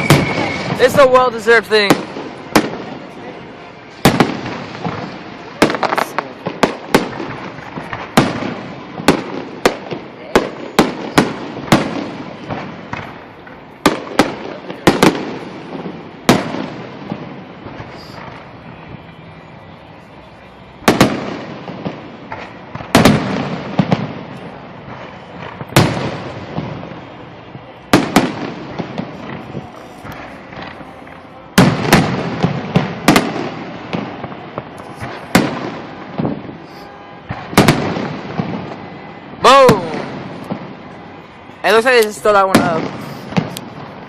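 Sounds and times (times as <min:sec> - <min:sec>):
fireworks booming: 0:00.0 - 0:44.0.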